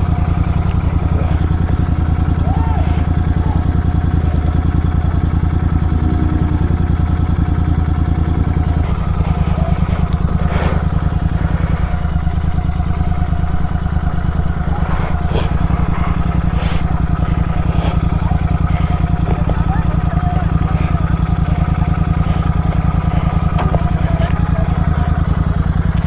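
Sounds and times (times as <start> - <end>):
motorcycle exhaust pulsing: 0.0 - 26.0.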